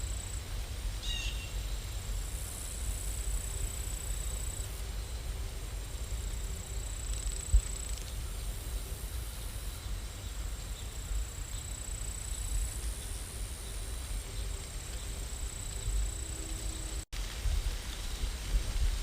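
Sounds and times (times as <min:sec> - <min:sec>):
rain hiss: 0:00.0 - 0:19.0.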